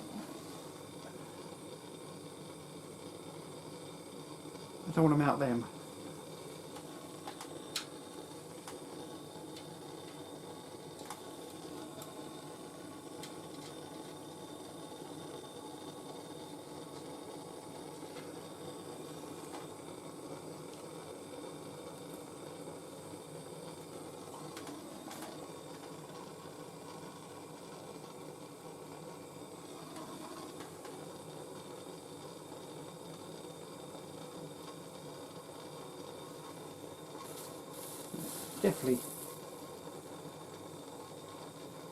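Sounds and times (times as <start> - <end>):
gas torch hissing: 0.0 - 41.9.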